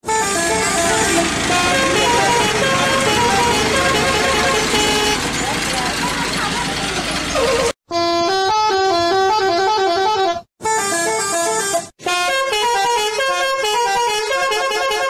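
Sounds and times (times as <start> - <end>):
bus musical horn playing tunes: 0.0 - 15.0.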